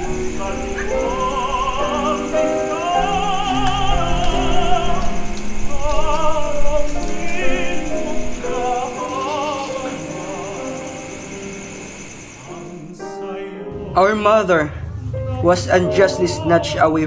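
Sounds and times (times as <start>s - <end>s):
operatic singing: 0.0s - 17.0s
orchestral accompaniment: 0.0s - 17.0s.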